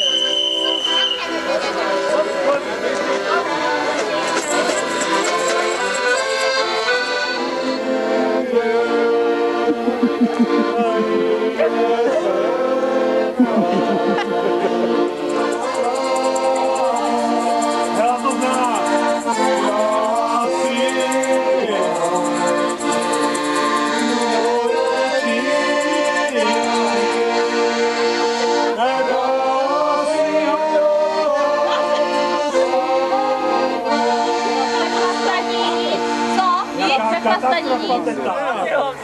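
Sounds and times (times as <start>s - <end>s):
accordion playing a tune: 0.0s - 38.3s.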